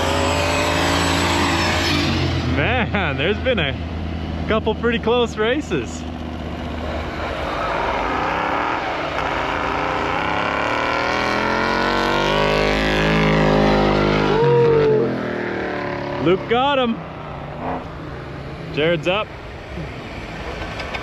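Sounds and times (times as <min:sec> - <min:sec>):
truck engines revving hard: 0:00.0 - 0:21.0.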